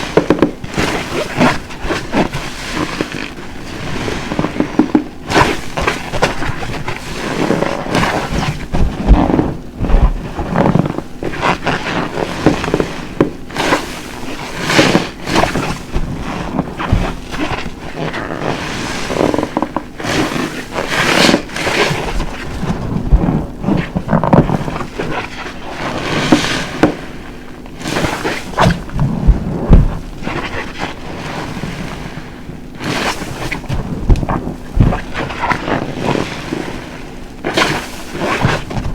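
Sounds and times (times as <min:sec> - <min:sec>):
wet sponge squelching: 0:00.0 - 0:38.9.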